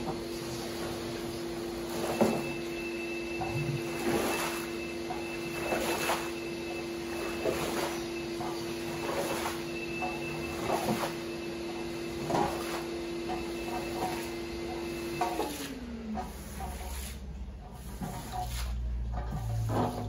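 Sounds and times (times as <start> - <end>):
squeegee swishing wet rug: 0.4 - 2.8, 3.7 - 20.0.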